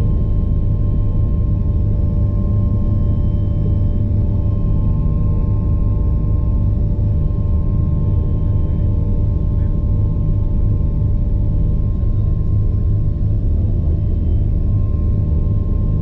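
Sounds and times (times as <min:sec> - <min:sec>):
helicopter rotor rumble: 0:00.0 - 0:16.0
turbine whine: 0:00.0 - 0:16.0.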